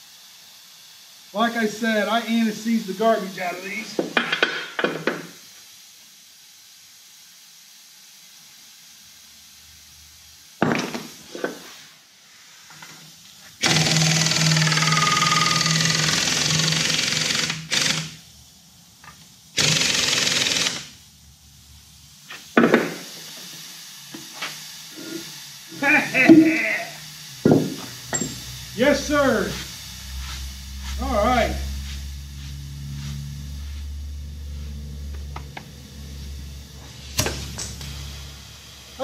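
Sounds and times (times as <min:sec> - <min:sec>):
pneumatic impact wrench: 0:00.0 - 0:39.0.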